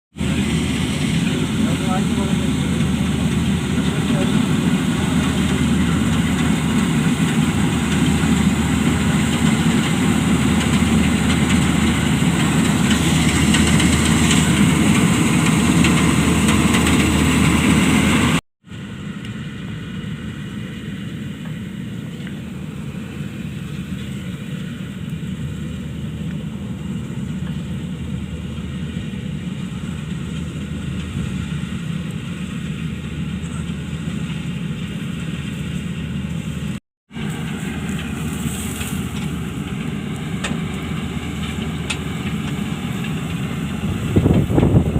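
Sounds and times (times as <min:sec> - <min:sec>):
combine harvester engine running: 0:00.2 - 0:44.9.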